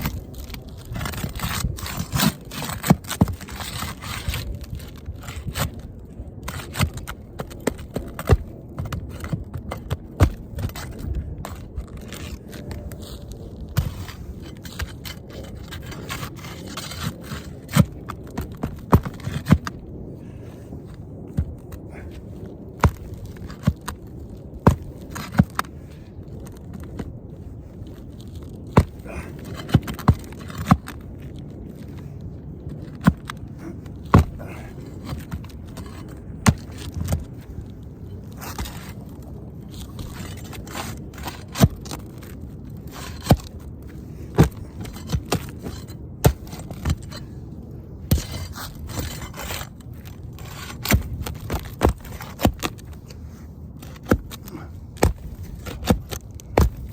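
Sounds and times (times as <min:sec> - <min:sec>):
scraping on shingle roof: 0:00.0 - 0:56.9.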